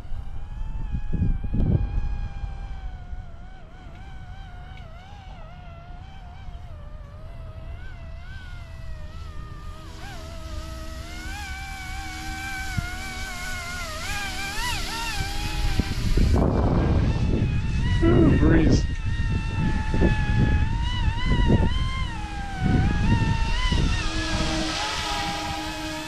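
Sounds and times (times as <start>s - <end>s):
model helicopter motor whining: 0.0s - 26.0s
wind on microphone: 0.0s - 26.0s.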